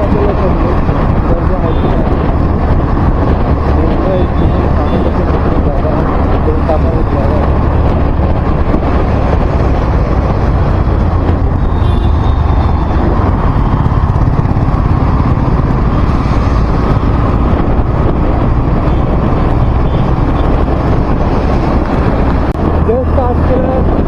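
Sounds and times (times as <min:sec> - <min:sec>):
vehicle driving on road: 0:00.0 - 0:24.0
wind on microphone: 0:00.0 - 0:24.0.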